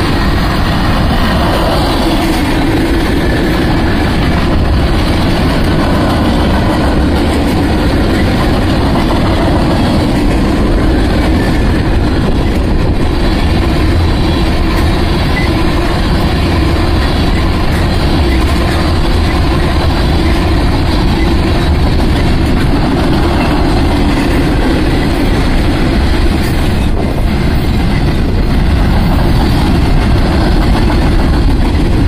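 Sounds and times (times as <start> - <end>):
steel wheels rumbling on rail: 0.0 - 32.0.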